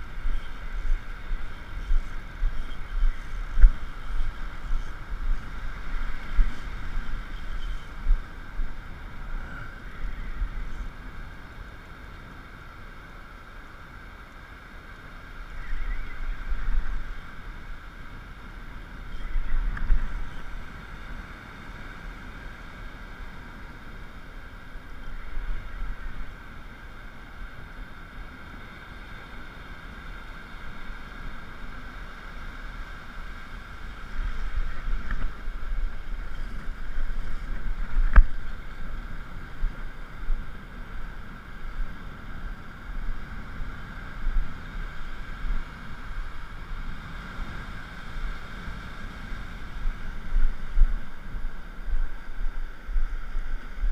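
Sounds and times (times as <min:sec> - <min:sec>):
wind buffeting microphone: 0:00.0 - 0:12.6, 0:15.1 - 0:53.9
surf hiss: 0:00.0 - 0:53.9.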